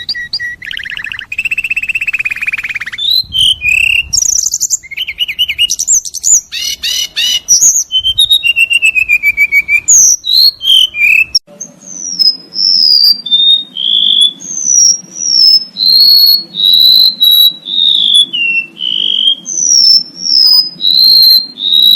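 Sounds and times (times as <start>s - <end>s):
bird whistling descending notes: 0.0s - 21.9s
songbird chirps and trills: 0.0s - 21.9s.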